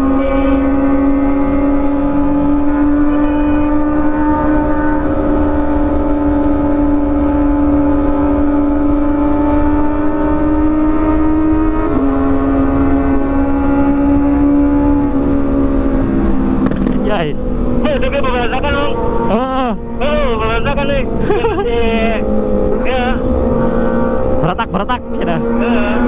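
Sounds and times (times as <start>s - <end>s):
wind rumble: 0.0s - 25.7s
motorcycle engine revving high: 0.0s - 26.0s.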